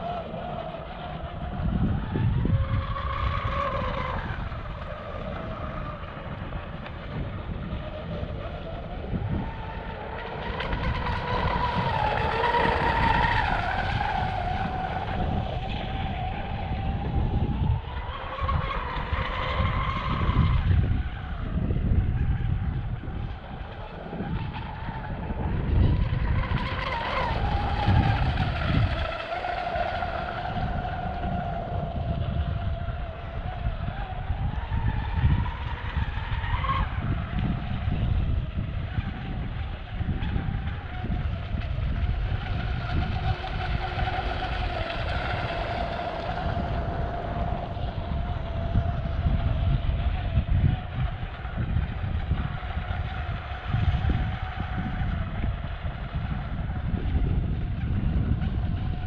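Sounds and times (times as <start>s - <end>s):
electric motor whining: 0.0s - 55.0s
wind rumbling on microphone: 0.0s - 59.0s.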